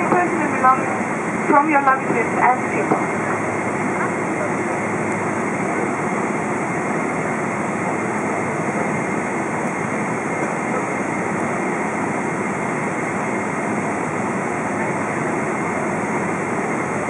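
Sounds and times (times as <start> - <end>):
jet engine and cabin noise: 0.0 - 17.0.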